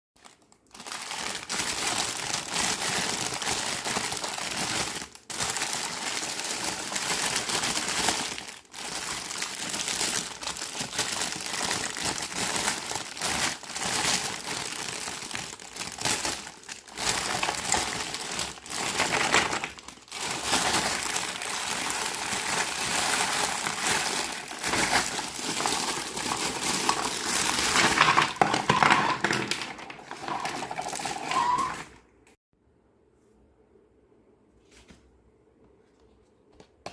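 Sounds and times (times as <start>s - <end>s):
plastic packaging crinkling: 0.2s - 32.1s.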